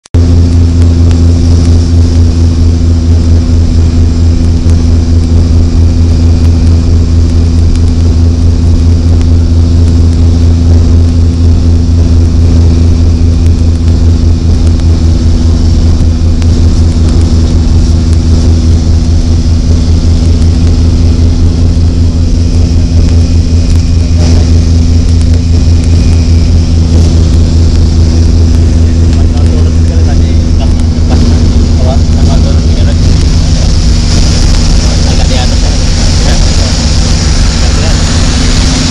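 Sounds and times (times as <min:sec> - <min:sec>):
turboprop engines droning: 0:00.0 - 0:38.9
faint high engine whine: 0:00.1 - 0:38.9.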